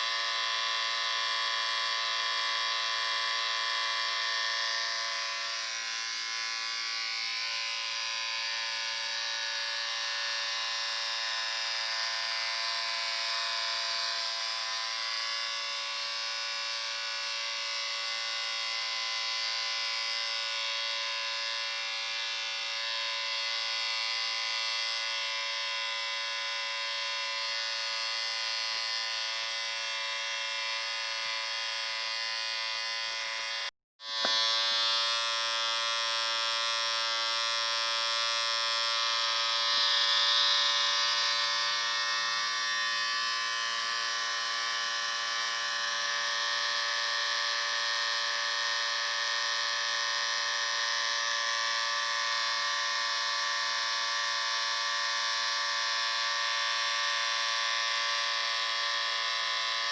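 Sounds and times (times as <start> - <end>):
electric shaver buzzing: 0.0 - 59.9.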